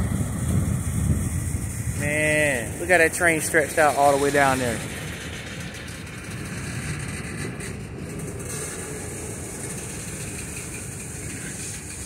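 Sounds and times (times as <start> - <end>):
freight train rolling on rails: 0.0 - 12.0.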